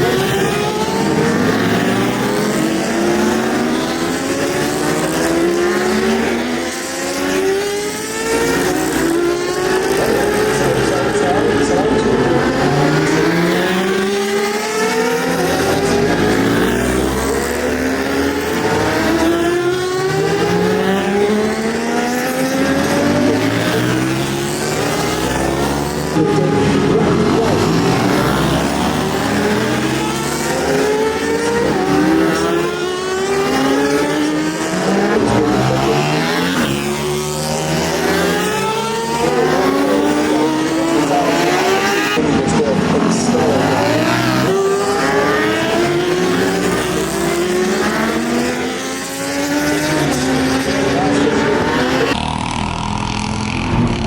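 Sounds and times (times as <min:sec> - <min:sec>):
racing motorcycles at full throttle: 0:00.0 - 0:54.0.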